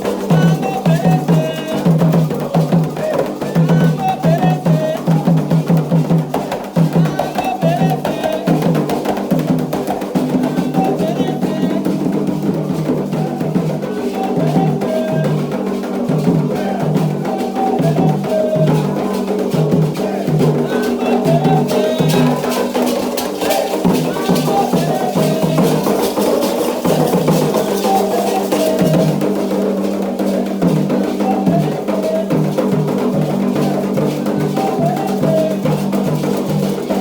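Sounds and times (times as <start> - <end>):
chanted singing: 0.0 - 37.0
hand drums and percussion: 0.0 - 37.0.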